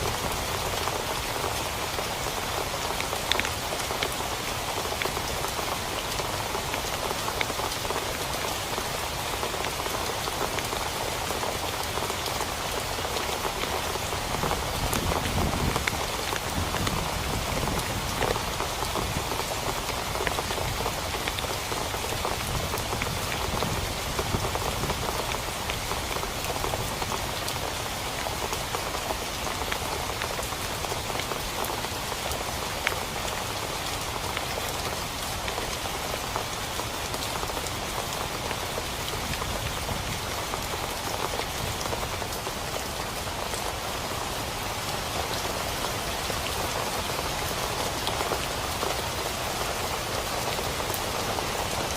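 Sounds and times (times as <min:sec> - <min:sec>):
rain on a tent: 0:00.0 - 0:51.9.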